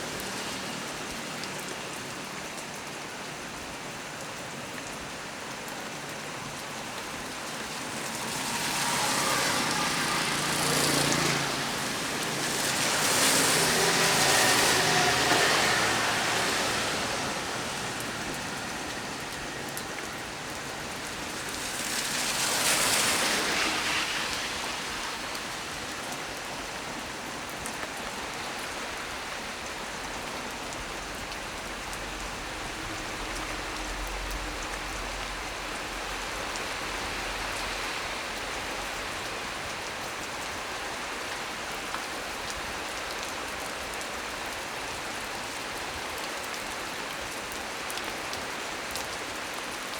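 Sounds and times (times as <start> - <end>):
heavy rain on leaves: 0.0 - 49.9.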